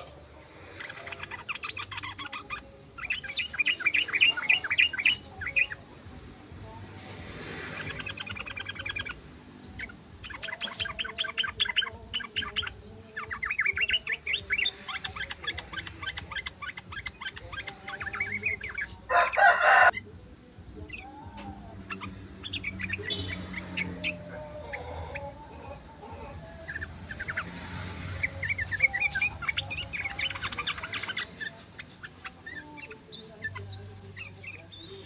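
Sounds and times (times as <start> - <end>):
bulbul chattering: 0.0 - 5.8, 7.5 - 35.0.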